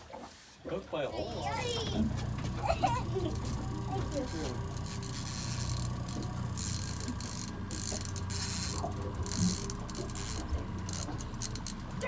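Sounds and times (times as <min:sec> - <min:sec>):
steady low hum: 0:01.2 - 0:12.0
fishing reel ratcheting: 0:02.3 - 0:12.0.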